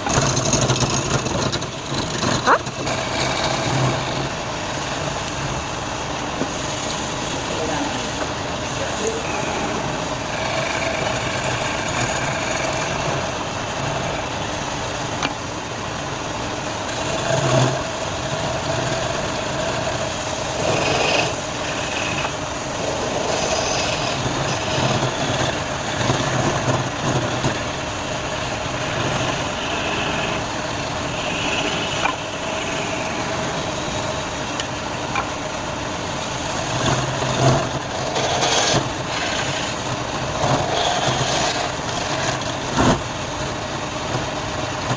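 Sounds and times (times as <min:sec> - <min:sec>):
tools scraping spinning wood: 0:00.0 - 0:15.4, 0:16.5 - 0:44.9
wood lathe running: 0:00.0 - 0:44.9.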